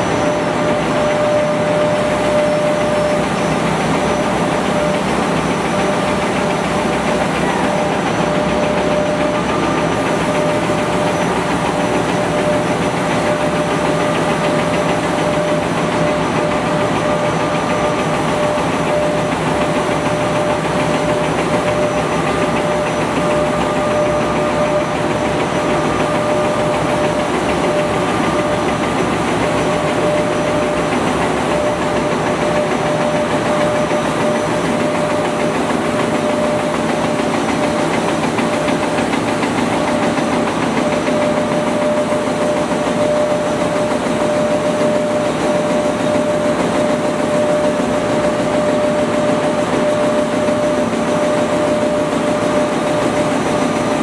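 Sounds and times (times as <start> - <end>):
constant machine whine: 0.0 - 54.0
machine fast mechanical rattle: 0.0 - 54.0.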